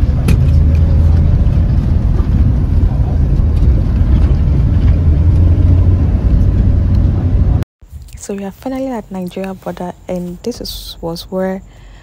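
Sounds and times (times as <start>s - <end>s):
vehicle engine and road noise: 0.0s - 11.7s.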